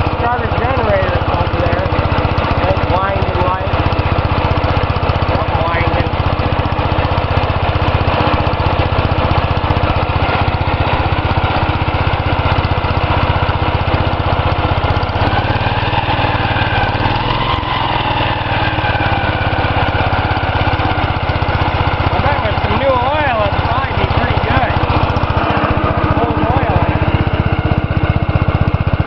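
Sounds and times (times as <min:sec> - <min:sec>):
garden tractor engine idling: 0:00.0 - 0:29.0.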